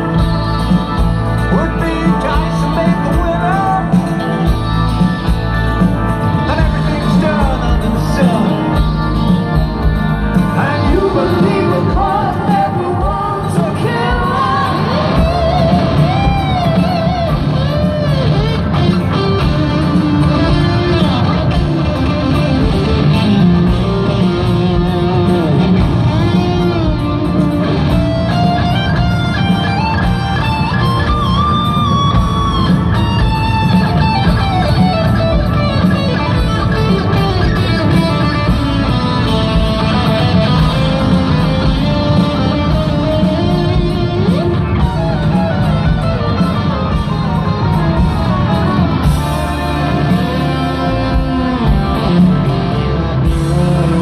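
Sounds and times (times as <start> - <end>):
electric guitar lead: 0.0 - 54.0
live rock band: 0.0 - 54.0.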